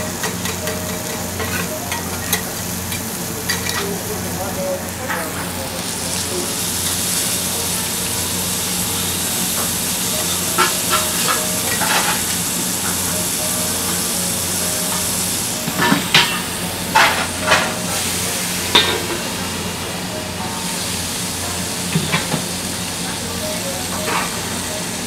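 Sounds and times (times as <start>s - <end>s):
steak sizzling on griddle: 0.0s - 25.0s.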